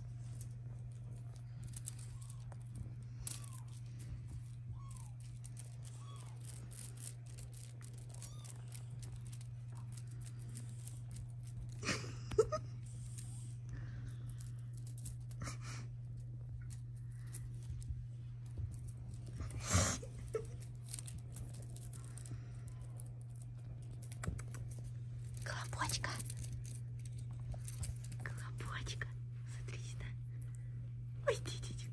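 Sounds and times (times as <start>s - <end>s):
low hum: 0.0s - 31.9s.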